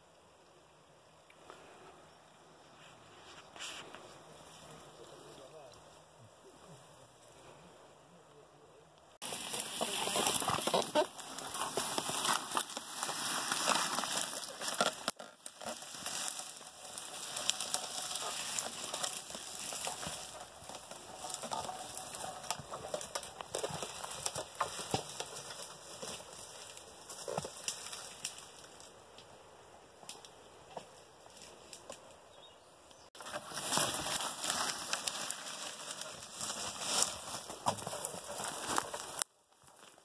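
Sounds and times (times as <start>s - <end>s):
dry brush crackling and rustling: 2.8s - 6.0s, 9.2s - 29.3s, 30.0s - 32.4s, 33.0s - 40.0s.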